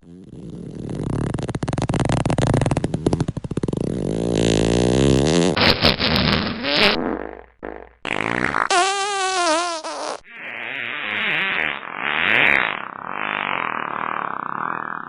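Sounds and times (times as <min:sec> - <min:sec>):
fart sound effects: 0:00.0 - 0:15.0.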